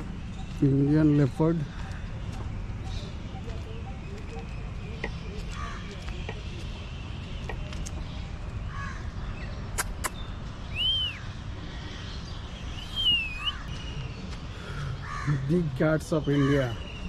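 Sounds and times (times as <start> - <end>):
birds whistling calls: 0.0 - 17.0.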